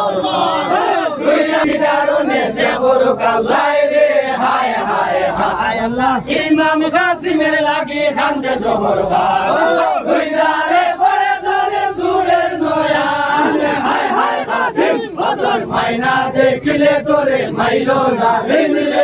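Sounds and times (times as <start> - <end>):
crowd voices: 0.0 - 19.0
men chanting and singing: 0.0 - 19.0.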